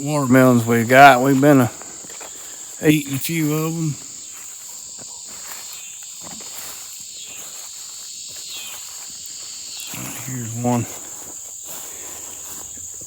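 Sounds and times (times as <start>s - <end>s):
insects droning: 0.0s - 13.0s
footsteps rustling through vines: 0.5s - 13.0s.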